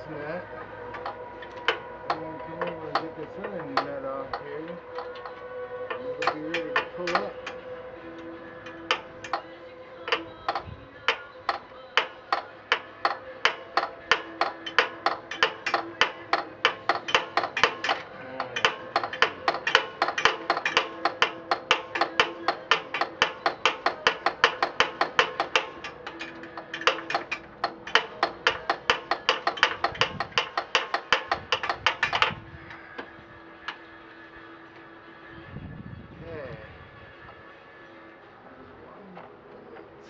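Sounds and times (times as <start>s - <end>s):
hammer blows on metal: 0.9s - 33.9s.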